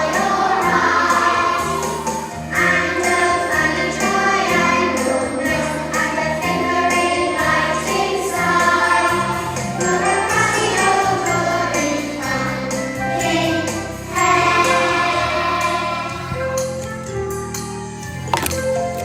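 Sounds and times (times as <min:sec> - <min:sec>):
choir singing held notes: 0:00.0 - 0:16.6
musical accompaniment: 0:00.0 - 0:19.0.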